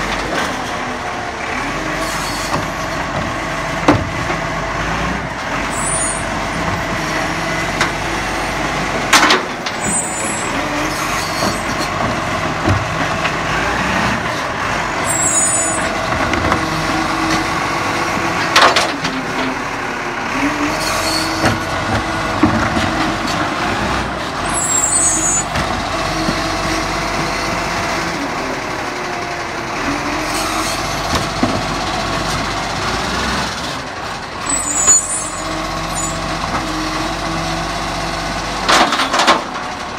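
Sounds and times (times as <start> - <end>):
garbage truck running: 0.0 - 39.9.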